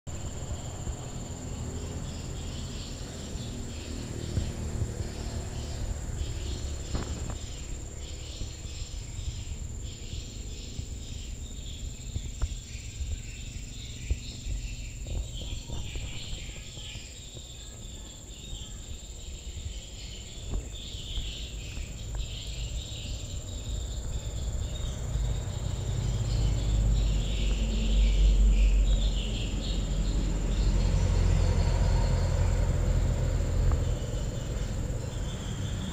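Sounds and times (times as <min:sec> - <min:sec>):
insects calling: 0:00.1 - 0:35.9.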